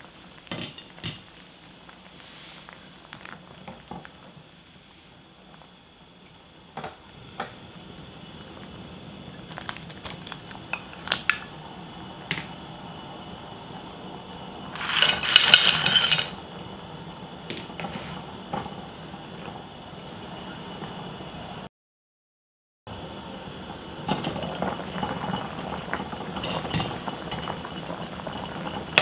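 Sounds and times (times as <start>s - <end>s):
stew simmering in a pot: 0.0s - 14.8s, 16.4s - 21.5s, 22.9s - 29.0s.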